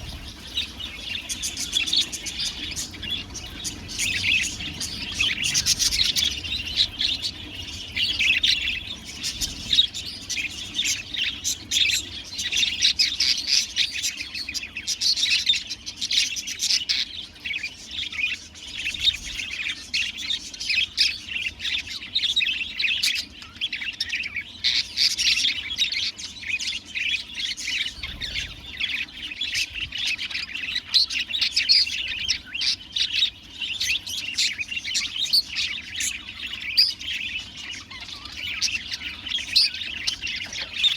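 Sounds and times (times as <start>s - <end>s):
budgerigars chirping and warbling: 0.0s - 40.9s.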